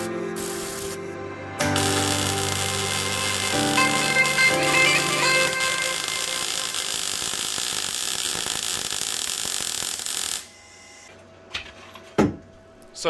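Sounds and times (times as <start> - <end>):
welder crackling hiss: 0.0 - 10.6.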